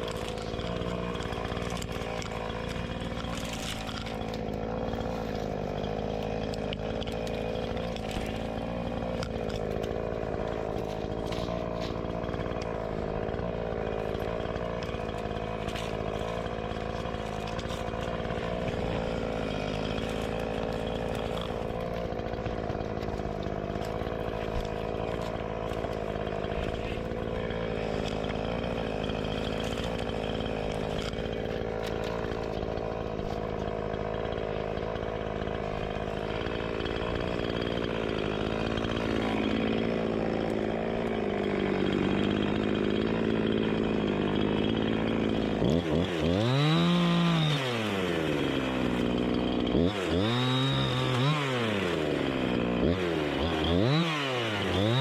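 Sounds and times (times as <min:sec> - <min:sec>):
chainsaw engine running: 0:00.0 - 0:55.0.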